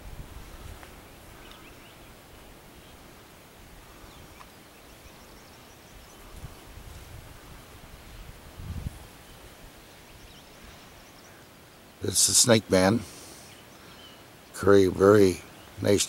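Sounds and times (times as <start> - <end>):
distant bird chirps: 0.5 - 6.7, 9.2 - 16.0.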